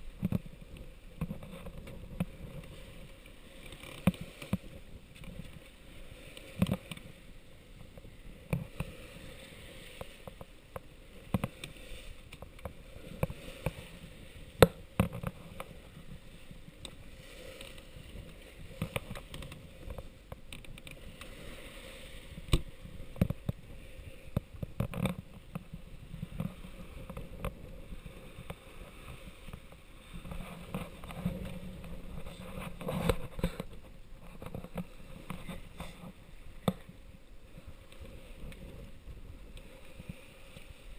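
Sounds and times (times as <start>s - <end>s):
water splashing along hull: 0.0s - 40.9s.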